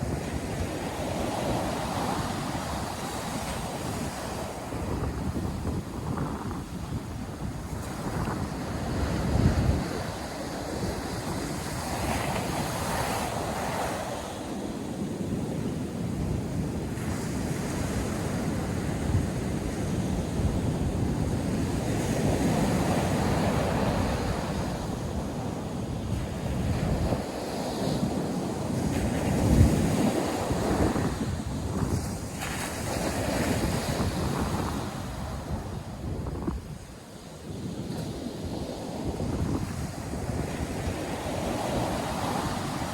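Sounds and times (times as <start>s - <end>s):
ocean surf on beach: 0.0s - 42.9s
wind buffeting microphone: 0.0s - 42.9s.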